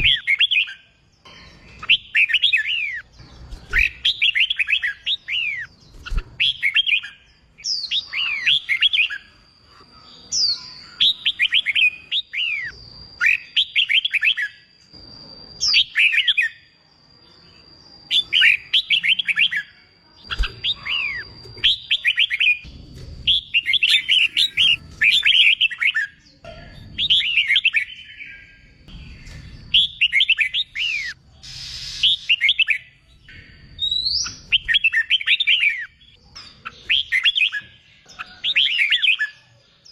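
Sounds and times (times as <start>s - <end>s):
bird song chattering phrases: 0.0s - 14.6s, 15.6s - 39.9s.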